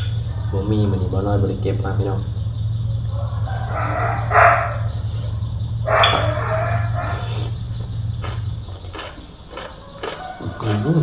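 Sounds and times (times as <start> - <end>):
low hum: 0.0 - 8.9
insect buzzing: 1.8 - 11.0.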